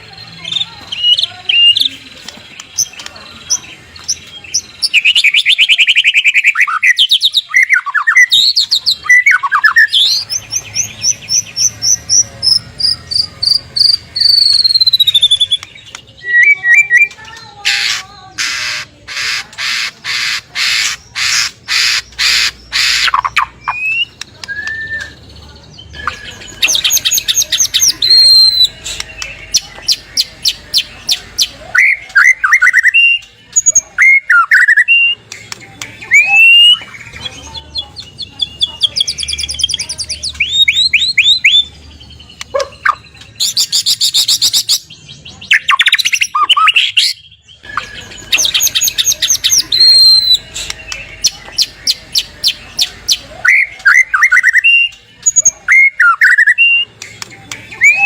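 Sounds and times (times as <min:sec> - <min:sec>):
songbird singing varied song: 0:00.1 - 0:58.0.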